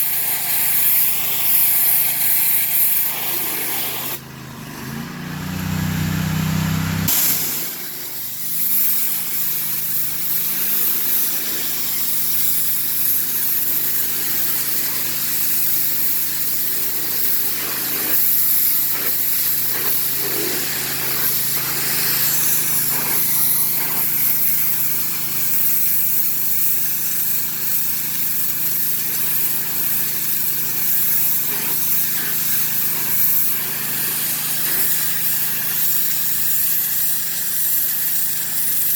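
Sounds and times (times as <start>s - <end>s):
water spray hissing: 0.0s - 4.2s, 5.6s - 38.9s
pressure washer engine hum: 0.0s - 38.9s.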